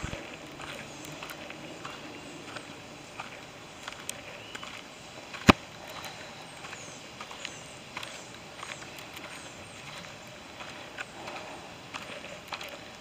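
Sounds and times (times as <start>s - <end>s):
footsteps on dirt trail: 0.0s - 13.0s.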